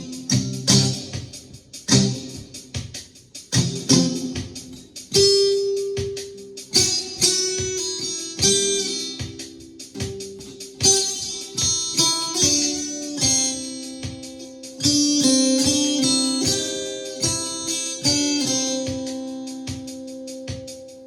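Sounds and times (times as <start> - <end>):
slide guitar chords and notes: 0.0 - 21.0.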